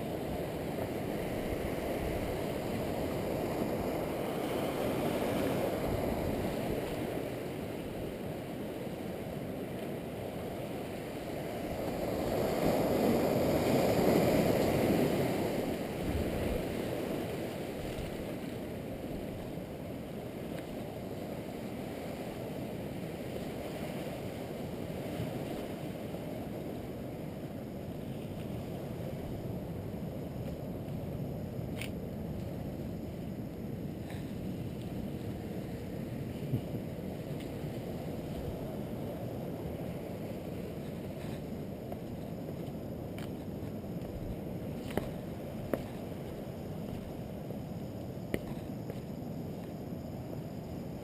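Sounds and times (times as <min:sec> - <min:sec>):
wind: 0:00.0 - 0:51.0.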